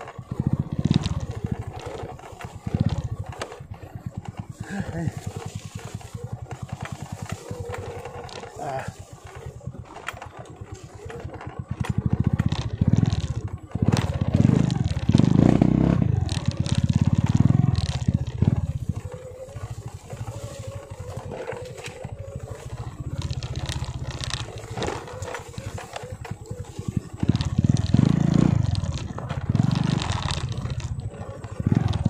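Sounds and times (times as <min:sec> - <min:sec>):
small motorcycle engine: 0:00.0 - 0:32.0
tyres clattering on rocky trail: 0:00.0 - 0:32.0.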